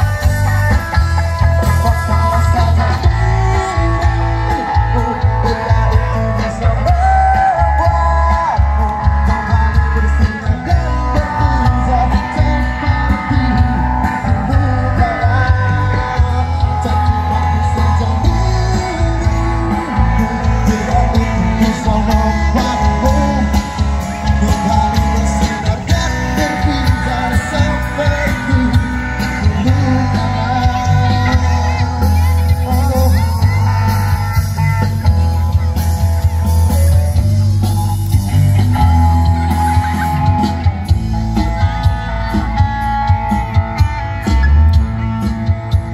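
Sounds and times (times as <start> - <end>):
distant band music with singing: 0.0 - 45.9
heavy bass and drum beat: 0.0 - 45.9.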